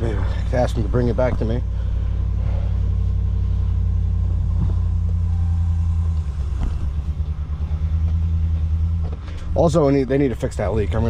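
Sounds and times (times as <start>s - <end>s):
pickup truck engine idling: 0.0s - 11.0s.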